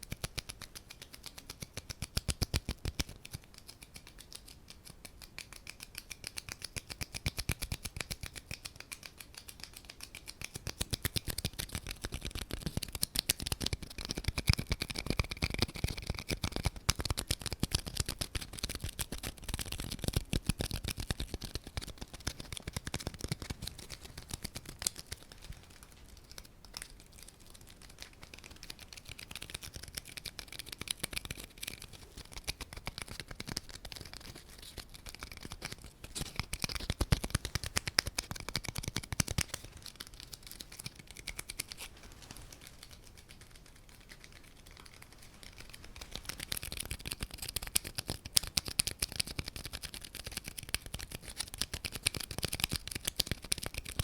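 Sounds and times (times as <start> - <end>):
light tapping and scratching: 0.0 - 54.0.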